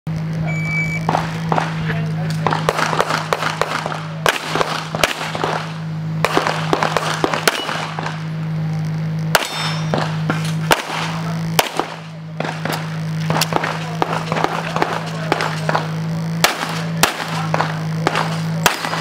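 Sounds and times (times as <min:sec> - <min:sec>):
steady low hum: 0:00.1 - 0:19.0
pistol shots: 0:01.0 - 0:08.3, 0:09.3 - 0:19.0.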